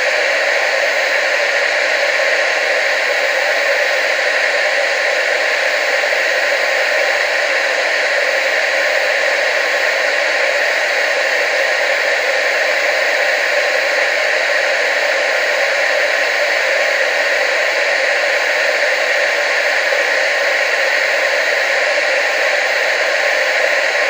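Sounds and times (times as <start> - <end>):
tv static hiss: 0.0 - 24.0.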